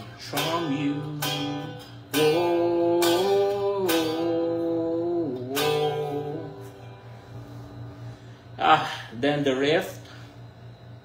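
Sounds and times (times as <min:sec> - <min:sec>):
electric guitar strumming chords: 0:00.0 - 0:10.2.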